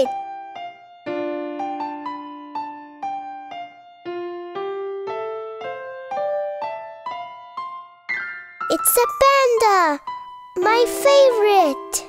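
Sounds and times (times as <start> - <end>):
gentle keyboard tune: 0.0 - 12.0.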